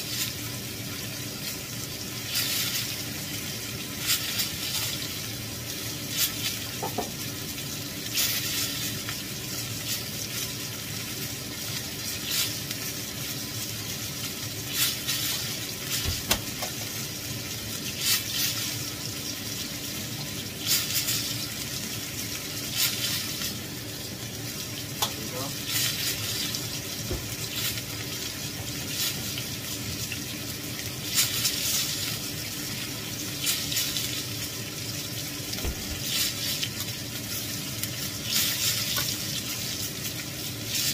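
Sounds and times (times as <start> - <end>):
meat sizzling in a skillet: 0.0 - 40.9.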